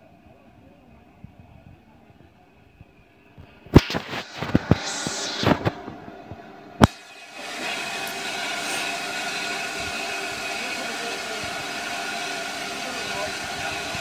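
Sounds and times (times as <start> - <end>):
steam locomotive rumbling past: 2.3 - 14.0.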